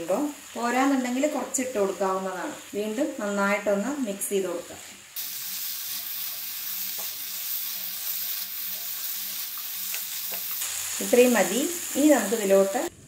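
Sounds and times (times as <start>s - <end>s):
prawns sizzling in a frying pan: 0.0s - 12.9s.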